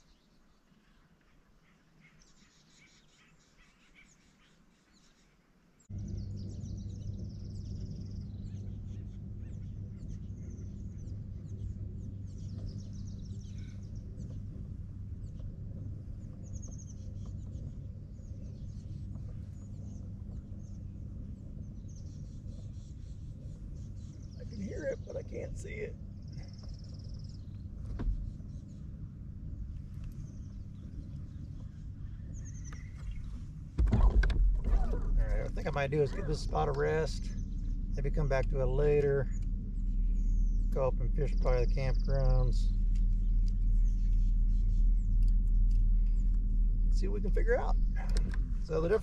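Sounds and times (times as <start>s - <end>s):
songbirds chirping: 0.0s - 49.0s
steady low hum: 0.0s - 49.0s.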